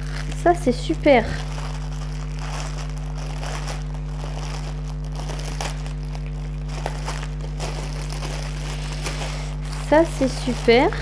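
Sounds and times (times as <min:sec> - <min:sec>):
low electrical hum: 0:00.0 - 0:11.0
plastic bag crinkling: 0:00.0 - 0:11.0.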